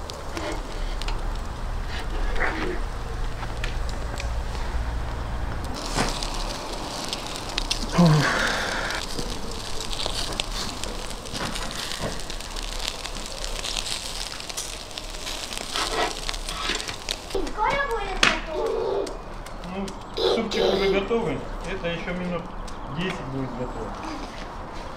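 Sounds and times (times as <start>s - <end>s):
fat sizzling on charcoal: 0.0s - 24.9s.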